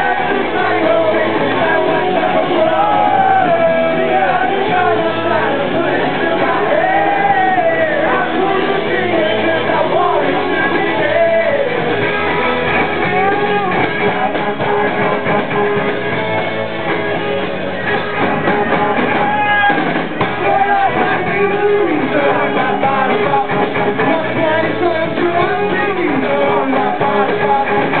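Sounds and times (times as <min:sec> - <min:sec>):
lead vocal singing: 0:00.0 - 0:15.8, 0:17.8 - 0:28.0
electric guitars: 0:00.0 - 0:28.0.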